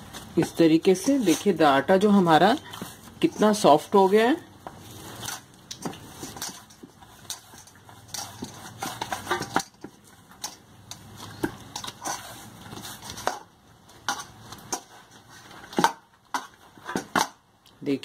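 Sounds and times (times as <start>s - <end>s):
dough squishing: 0.0s - 17.8s.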